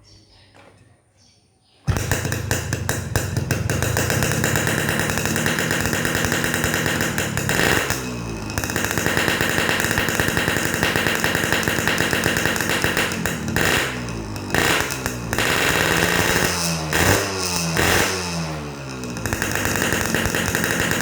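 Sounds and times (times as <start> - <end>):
motorcycle engine revving: 1.9 - 21.0.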